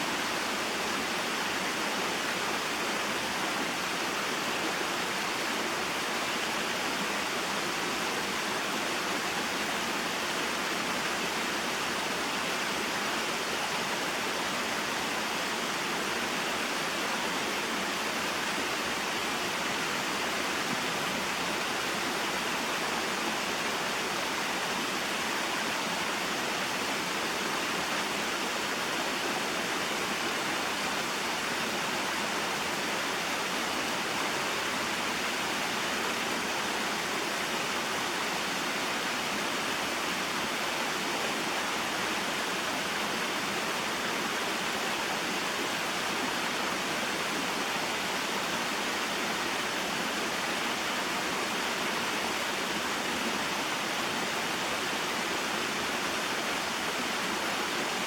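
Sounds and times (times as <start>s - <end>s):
water flowing over rocks: 0.0s - 58.0s.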